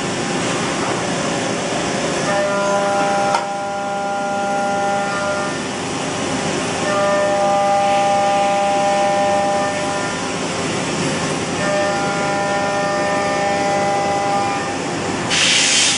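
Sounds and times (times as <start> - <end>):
high motor whine: 0.0 - 15.3
machine hum and hiss: 0.0 - 15.9.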